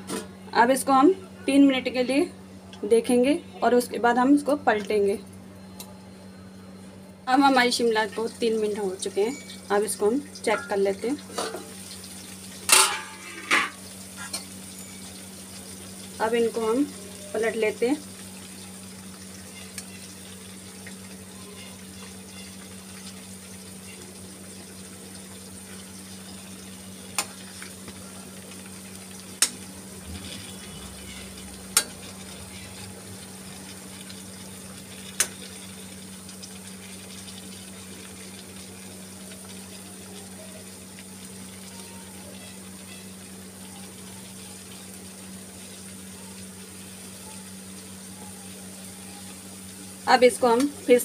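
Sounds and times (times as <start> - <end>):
peppers sizzling in oil: 7.3 - 51.0.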